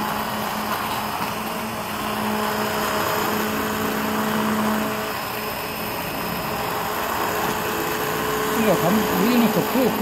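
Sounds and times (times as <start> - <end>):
immersion blender running: 0.0 - 10.0.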